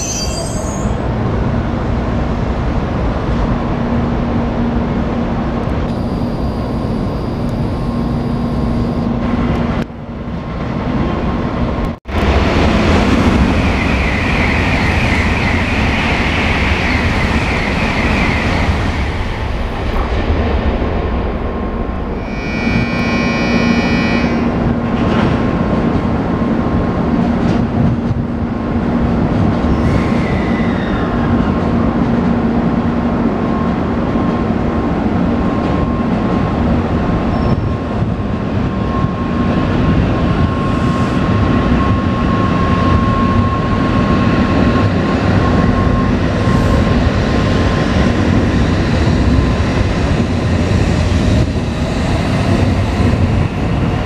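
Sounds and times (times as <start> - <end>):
train electric hum: 0.0 - 54.0
wheels rumbling on track: 0.8 - 54.0.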